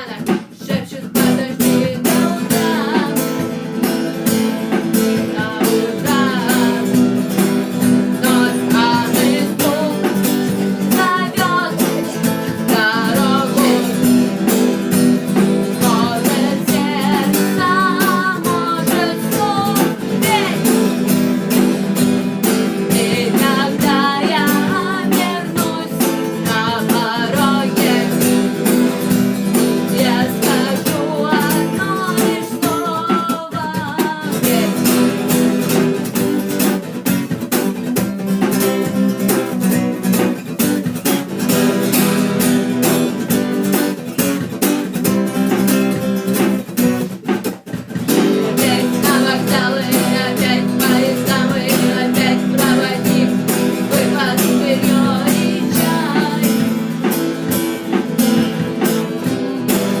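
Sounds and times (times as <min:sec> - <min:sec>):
woman singing: 0:00.0 - 0:36.1, 0:48.1 - 1:00.0
acoustic guitar strumming: 0:00.0 - 1:00.0.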